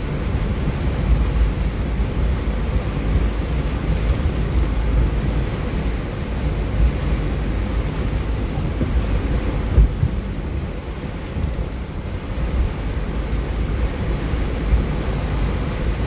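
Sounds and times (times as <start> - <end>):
vehicle engine rumble: 0.0 - 16.0
water washing around vehicle: 0.0 - 16.0
wind buffeting microphone: 0.0 - 16.0.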